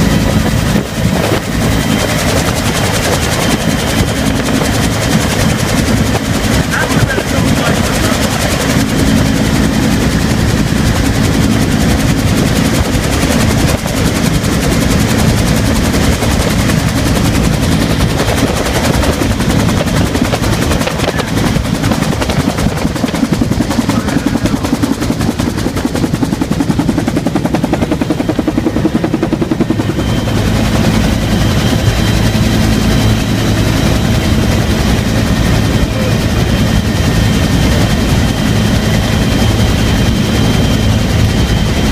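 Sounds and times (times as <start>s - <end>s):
helicopter rotor beating: 0.0s - 41.9s
turbine engine drone: 0.0s - 41.9s.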